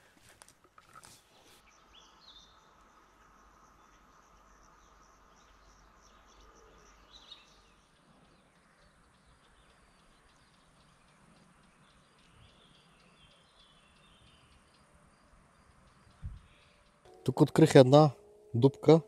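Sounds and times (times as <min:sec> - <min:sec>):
insects chirring: 0:02.1 - 0:17.4.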